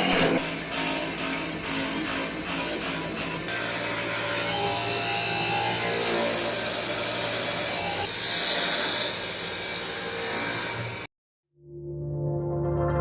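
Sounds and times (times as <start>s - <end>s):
cutter shaving wood hiss: 0.0s - 11.1s
lathe motor hum: 0.0s - 11.1s.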